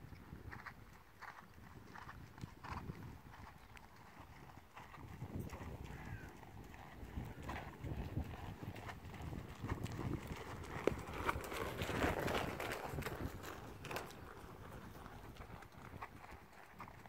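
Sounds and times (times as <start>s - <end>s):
horse hoofbeats on loose ground: 0.0s - 17.0s.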